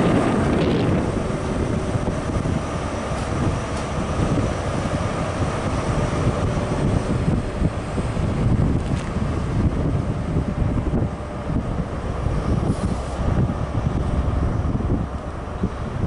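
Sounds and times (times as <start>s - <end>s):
diesel train engine rumble: 0.0s - 16.0s
wind buffeting microphone: 0.0s - 16.0s.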